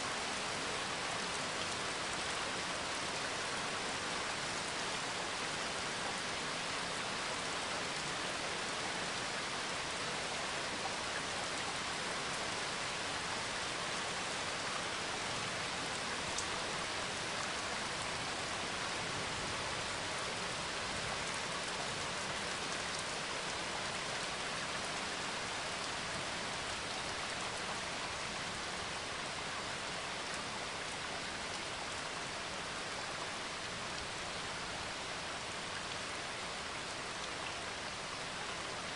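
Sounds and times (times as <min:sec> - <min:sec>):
rain-like hiss: 0:00.0 - 0:38.9.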